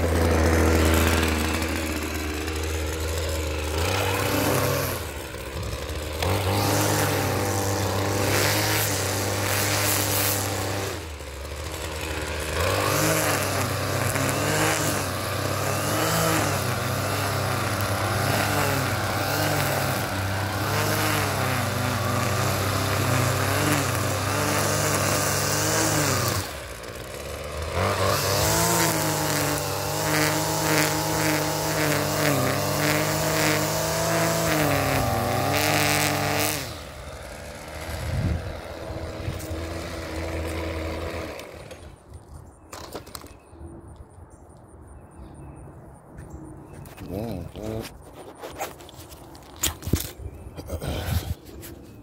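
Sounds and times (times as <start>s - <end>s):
string trimmer engine cutting grass: 0.0s - 43.4s, 46.7s - 52.0s.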